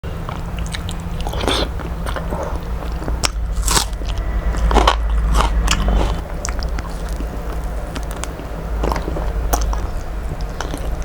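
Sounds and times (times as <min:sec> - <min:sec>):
crunchy food chewing: 0:00.0 - 0:11.0
low electrical hum: 0:00.0 - 0:11.0.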